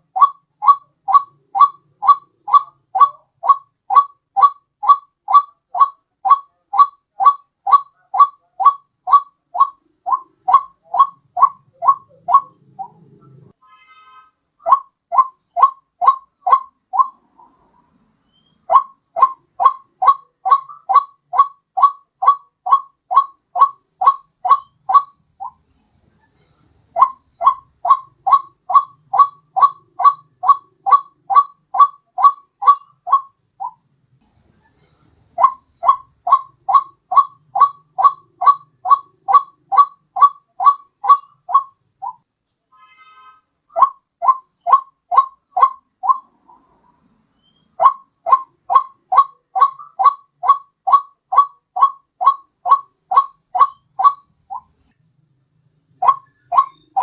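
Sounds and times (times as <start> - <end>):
waterhen call rising notes: 0.0 - 13.0, 14.6 - 17.6, 18.3 - 25.6, 27.0 - 33.8, 35.4 - 42.2, 43.7 - 46.8, 47.4 - 54.9, 56.0 - 57.0.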